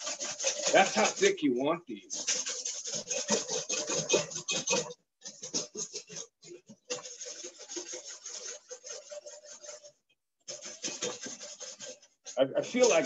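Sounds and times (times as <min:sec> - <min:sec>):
whisk scraping metal bowl: 0:00.0 - 0:13.0.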